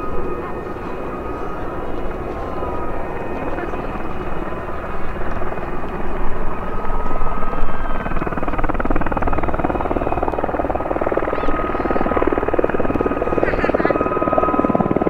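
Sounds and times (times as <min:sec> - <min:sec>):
helicopter turbine and rotors: 0:00.0 - 0:15.0
high turbine whine: 0:00.0 - 0:15.0.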